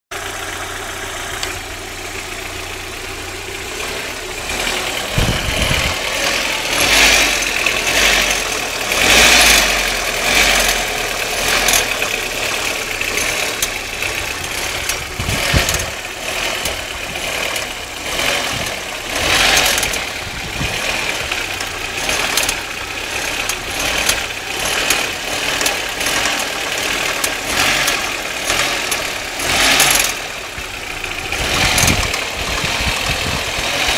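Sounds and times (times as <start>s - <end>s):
car engine running: 0.1s - 33.9s.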